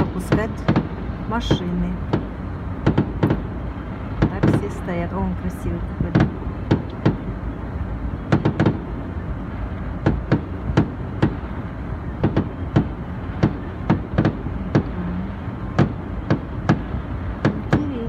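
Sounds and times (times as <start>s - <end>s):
fireworks bursting with sharp bangs: 0.0s - 5.0s, 5.9s - 7.4s, 8.0s - 18.0s
steady low rumble: 0.0s - 18.0s.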